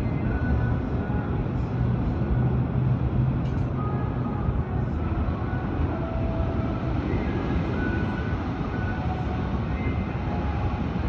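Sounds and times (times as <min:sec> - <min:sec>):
distant city traffic: 0:00.0 - 0:11.0.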